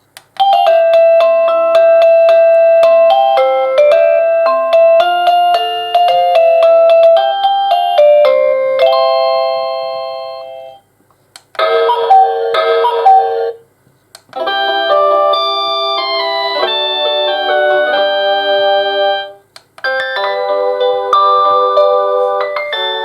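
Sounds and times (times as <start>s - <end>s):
electronic doorbell chime tunes: 0.4s - 10.8s, 11.6s - 13.6s, 14.4s - 23.0s.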